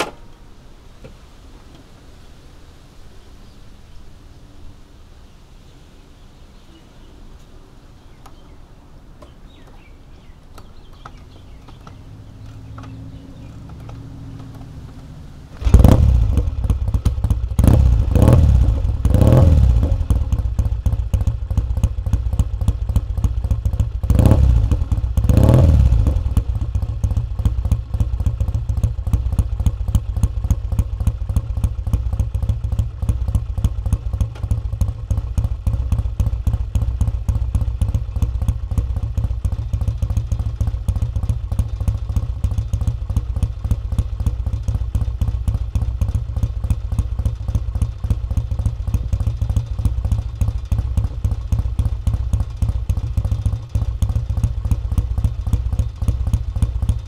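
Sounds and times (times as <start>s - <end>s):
motorcycle engine revving and idling: 9.5s - 57.0s.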